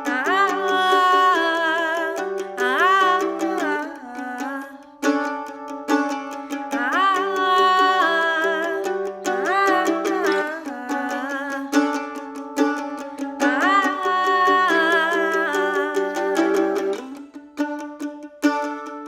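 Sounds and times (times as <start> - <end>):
wordless vocals: 0.0 - 5.4, 6.3 - 17.6
mandolin picking: 0.0 - 19.0.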